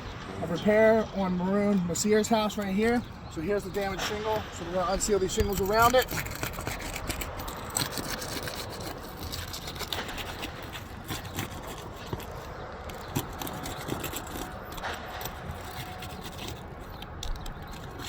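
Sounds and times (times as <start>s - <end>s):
small scuffs and clicks: 1.6s - 18.0s
tool scraping under roof shingles: 2.2s - 18.0s.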